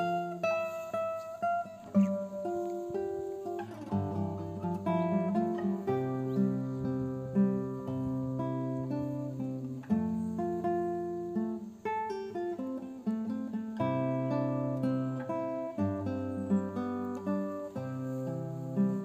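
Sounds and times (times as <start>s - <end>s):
acoustic guitar plucked chords: 0.0s - 19.0s.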